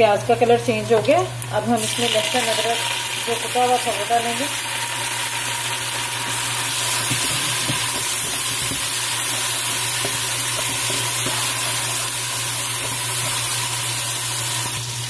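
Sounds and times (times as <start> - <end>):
onion sizzling in hot oil: 0.9 - 15.0.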